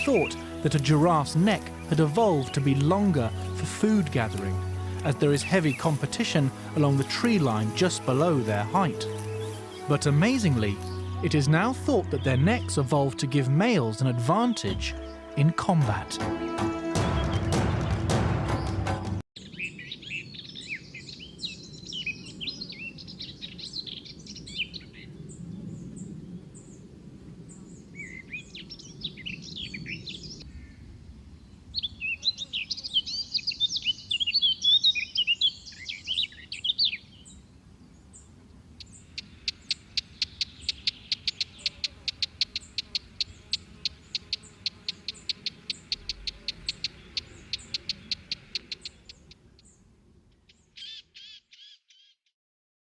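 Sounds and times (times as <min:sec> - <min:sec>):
birds chirping and twittering: 0:00.0 - 0:15.4, 0:17.0 - 0:26.9, 0:27.5 - 0:52.2.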